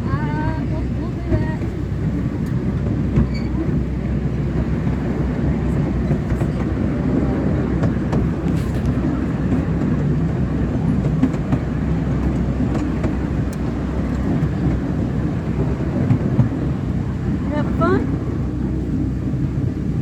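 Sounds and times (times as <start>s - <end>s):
ride train rumbling on track: 0.0s - 20.0s.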